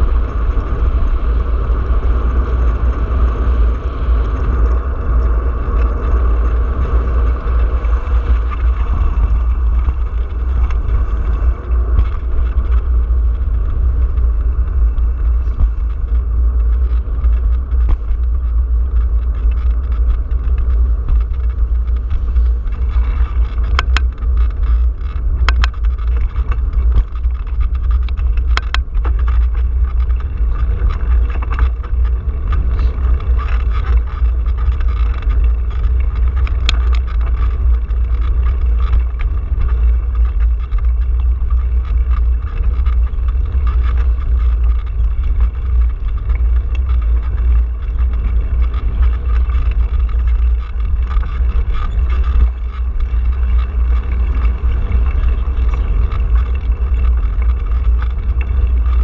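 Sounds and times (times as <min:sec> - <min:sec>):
wind and road rumble: 0:00.0 - 0:59.0.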